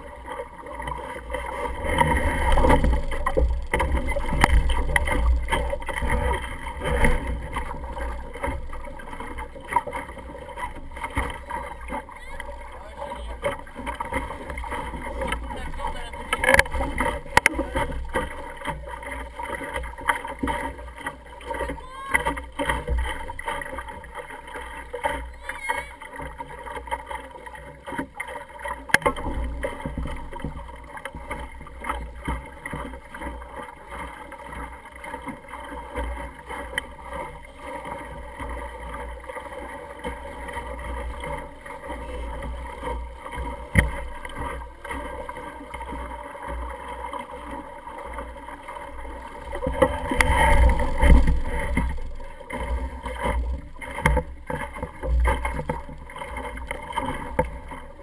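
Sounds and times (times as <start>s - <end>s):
water washing against hull: 0.0s - 58.0s.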